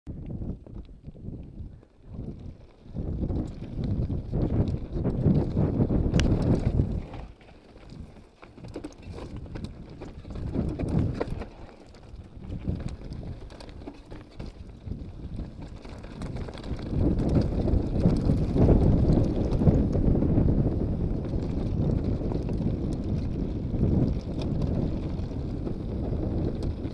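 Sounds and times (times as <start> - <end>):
bike rattling clicks and knocks: 0.2 - 26.9
bike tyres crunching over stones: 0.2 - 26.9.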